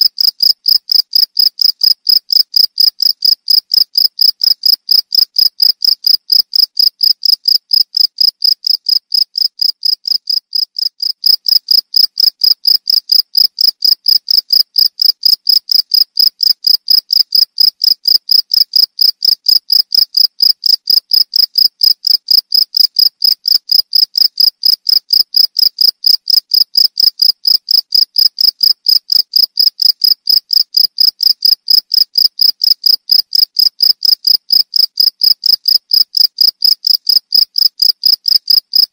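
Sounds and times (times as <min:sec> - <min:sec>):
cricket chirping: 0:00.1 - 0:38.9.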